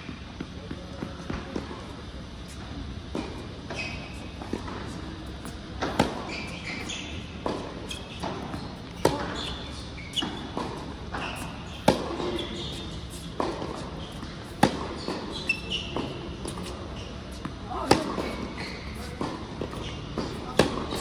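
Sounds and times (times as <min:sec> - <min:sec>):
tennis ball bouncing: 0:00.4 - 0:21.0
racket striking tennis ball: 0:03.1 - 0:21.0.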